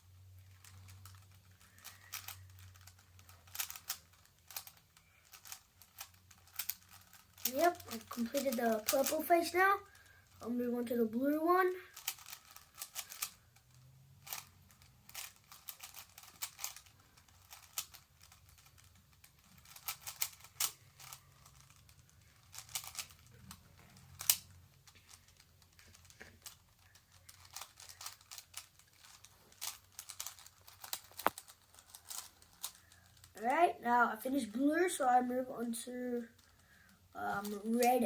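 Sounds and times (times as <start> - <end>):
plastic puzzle clicking: 0.5 - 10.4, 11.9 - 33.4.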